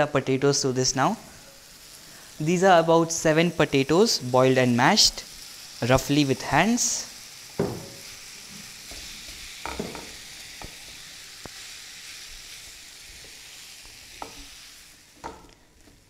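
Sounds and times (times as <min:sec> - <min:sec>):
masala sizzling in a pan: 0:00.0 - 0:16.0.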